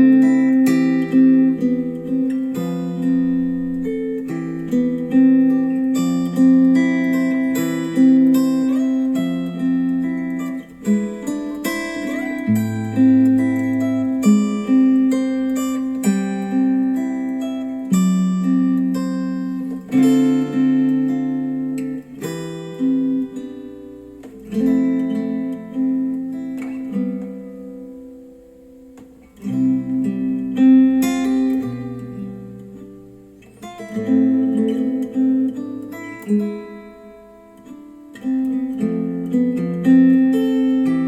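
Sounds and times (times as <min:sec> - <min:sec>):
acoustic guitar chords through speakers: 0:00.0 - 0:41.0.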